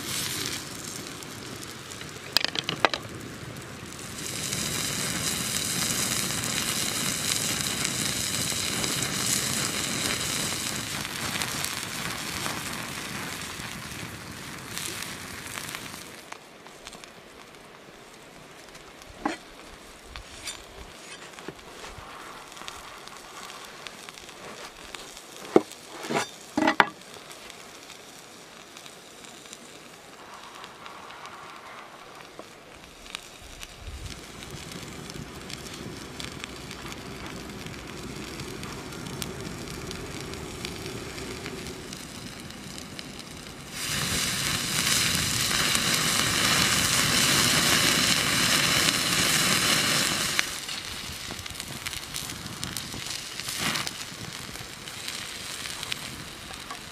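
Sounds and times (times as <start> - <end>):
burger patty sizzling on stone: 0.0 - 56.9
hiss of flames: 0.0 - 56.9.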